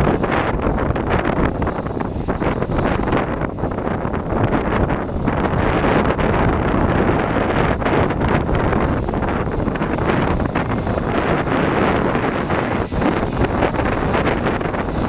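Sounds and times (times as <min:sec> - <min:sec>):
rushing wind roar: 0:00.0 - 0:15.0
wind buffeting microphone: 0:00.0 - 0:15.0.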